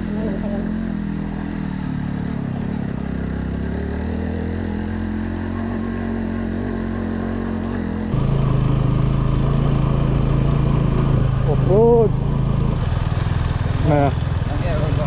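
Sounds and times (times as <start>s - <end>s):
motorcycle engine on dirt track: 0.0s - 15.0s.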